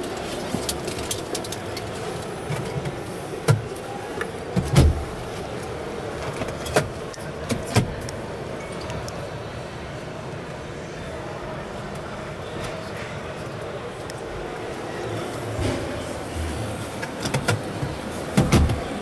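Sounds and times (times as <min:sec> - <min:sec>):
crowd hubbub in hall: 0:00.0 - 0:19.0.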